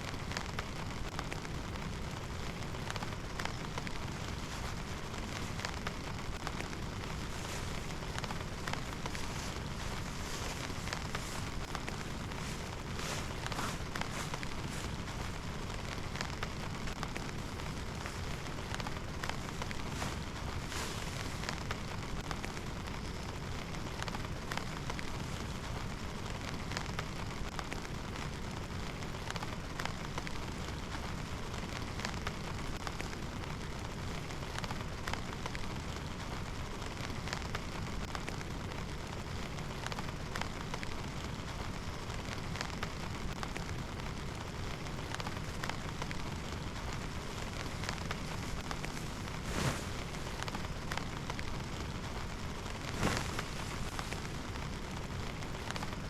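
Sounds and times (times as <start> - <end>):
raindrops tapping close by: 0.0 - 56.0
steady rain: 0.0 - 56.0.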